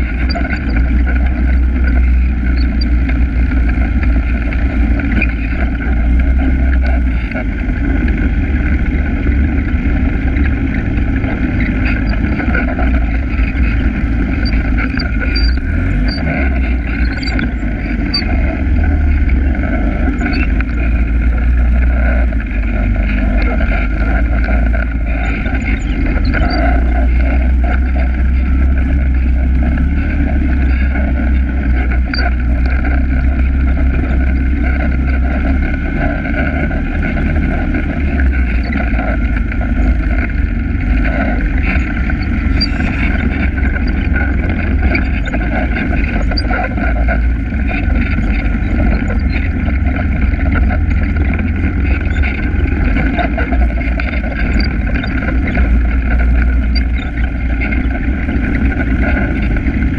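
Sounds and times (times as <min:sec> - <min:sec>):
all-terrain vehicle engine running: 0:00.0 - 0:59.9.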